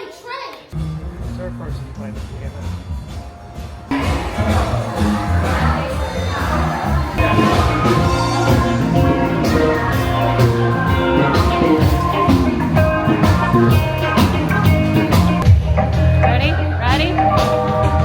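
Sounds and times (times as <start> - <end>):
background music with drums: 0.8 - 18.0.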